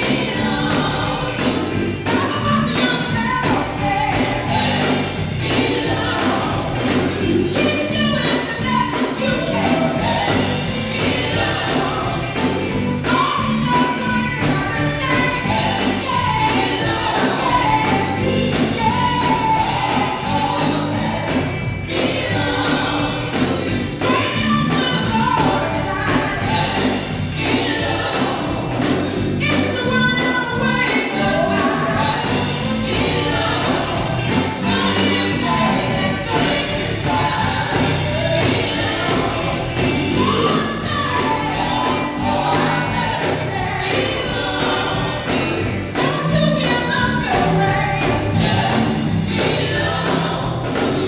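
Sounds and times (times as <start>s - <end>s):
band with drums: 0.0s - 51.0s
women's vocal group singing: 0.0s - 51.0s.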